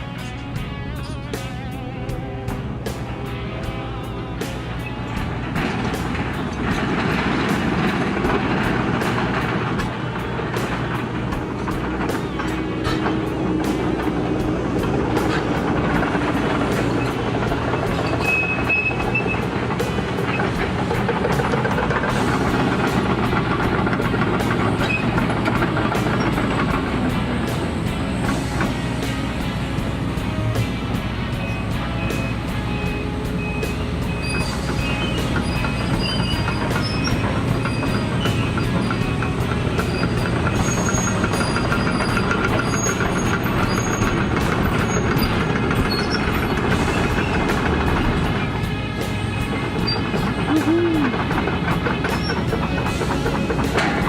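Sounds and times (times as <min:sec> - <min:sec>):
excavator diesel engine running: 0:00.0 - 0:54.0
high squeaks: 0:04.0 - 0:29.7, 0:31.4 - 0:54.0.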